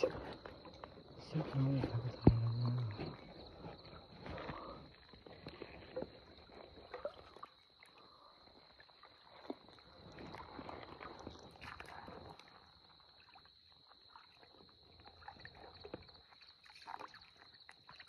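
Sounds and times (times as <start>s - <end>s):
feet wading through water: 0.0s - 18.0s.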